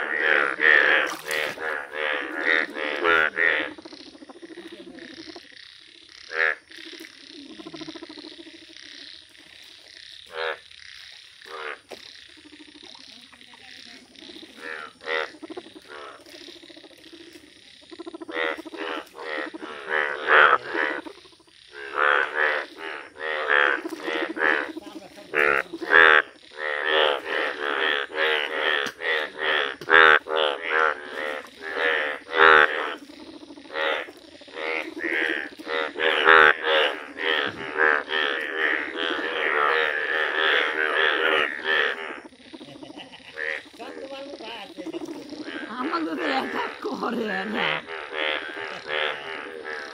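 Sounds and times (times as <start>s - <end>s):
bullfrogs croaking: 0.0s - 49.9s.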